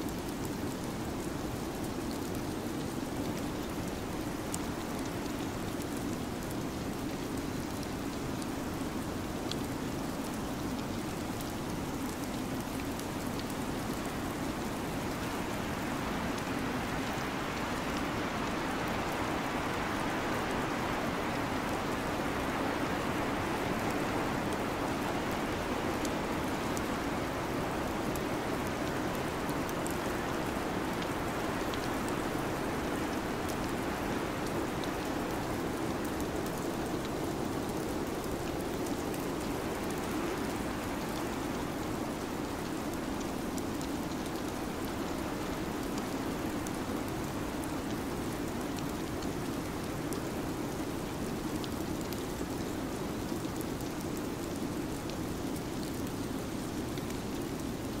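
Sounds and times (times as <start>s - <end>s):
rain-like rushing hiss: 0.0s - 58.0s.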